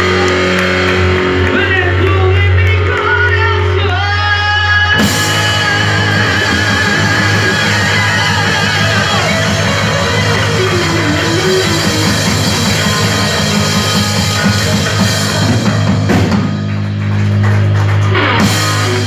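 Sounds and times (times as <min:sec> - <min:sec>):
heavy rock band playing: 0:00.0 - 0:19.0.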